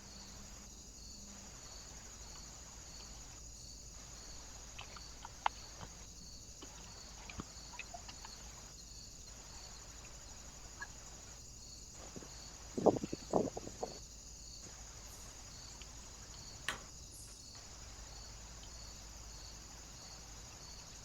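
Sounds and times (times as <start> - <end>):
electronic hiss: 0.0 - 21.0.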